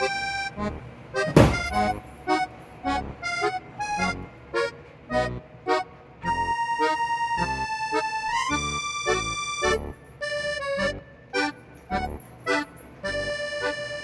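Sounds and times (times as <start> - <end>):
accordion music: 0.0 - 14.0.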